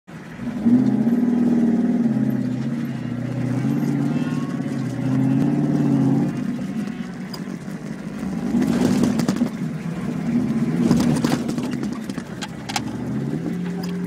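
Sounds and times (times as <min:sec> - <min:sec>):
off-road vehicle engine revving: 0:00.1 - 0:14.0.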